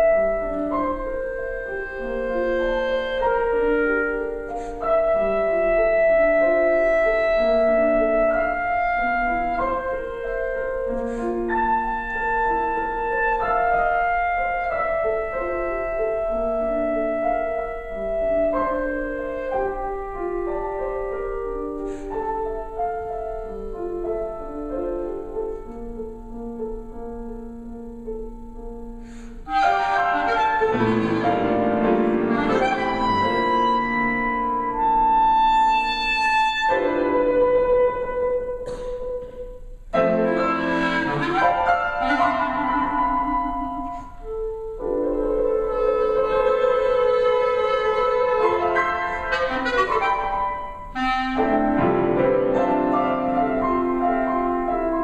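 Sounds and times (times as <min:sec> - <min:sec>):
clarinet: 0:00.0 - 0:55.0
piano: 0:00.0 - 0:55.0.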